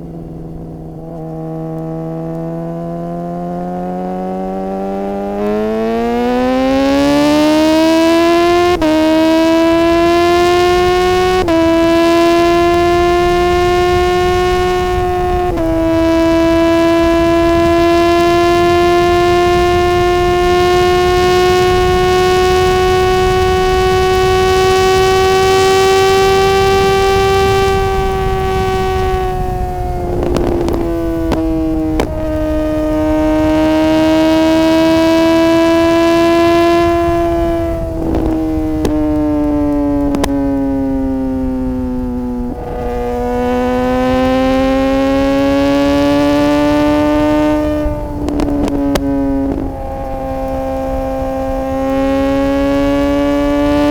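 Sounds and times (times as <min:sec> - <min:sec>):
motorcycle engine howling at high revs: 0:00.0 - 0:53.9.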